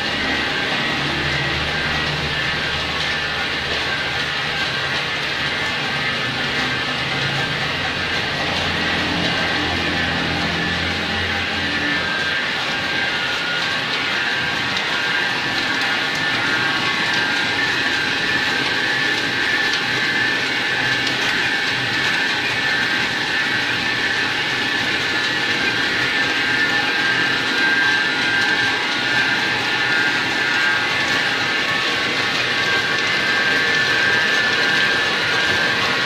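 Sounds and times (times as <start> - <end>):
high whining tones: 0.0 - 36.0
printing machine mechanical din: 0.0 - 36.0.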